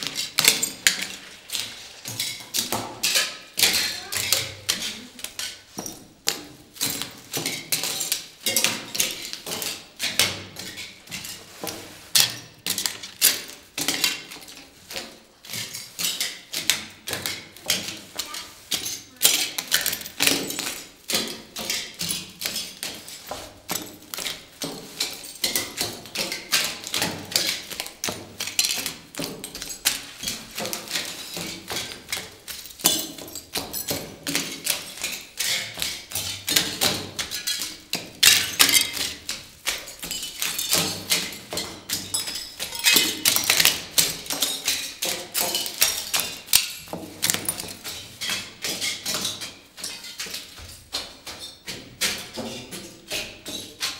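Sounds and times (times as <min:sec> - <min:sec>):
strips crinkling underfoot: 0:00.1 - 0:53.9.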